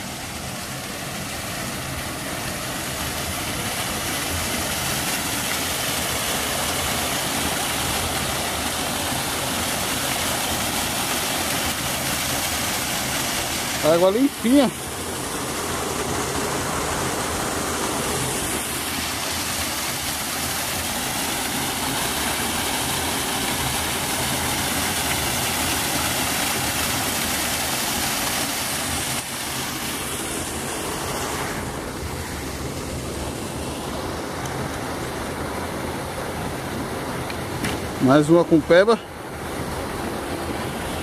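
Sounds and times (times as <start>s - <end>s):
small waterfall splashing into stream: 0.0s - 38.3s.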